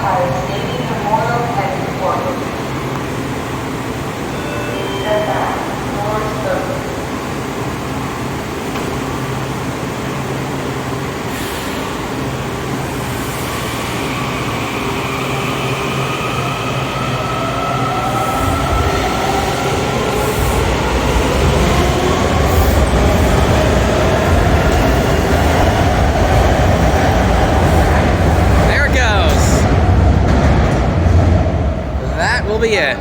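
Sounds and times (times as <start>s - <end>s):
subway train motors whining: 0.0s - 33.0s.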